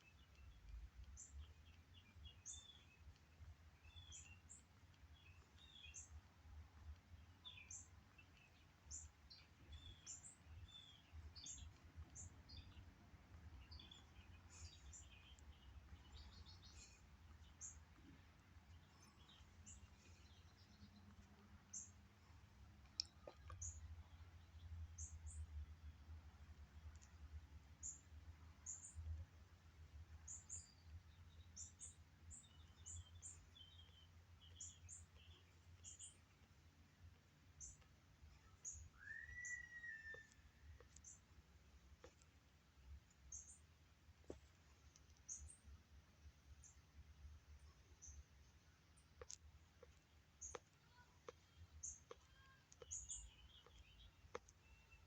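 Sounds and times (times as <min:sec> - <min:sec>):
birds chirping faintly: 0:00.0 - 0:55.0.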